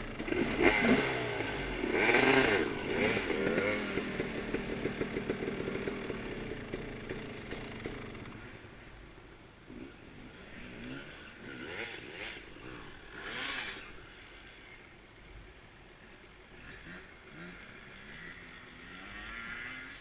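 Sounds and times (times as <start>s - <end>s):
motorcycle engine revving: 0.0s - 8.8s, 9.7s - 14.9s, 16.5s - 20.0s.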